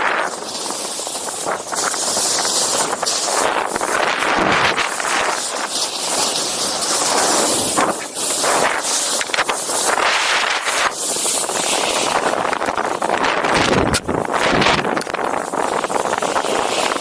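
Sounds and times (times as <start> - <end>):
snowboard sliding over snow: 0.0 - 17.0
wind on microphone: 0.0 - 17.0.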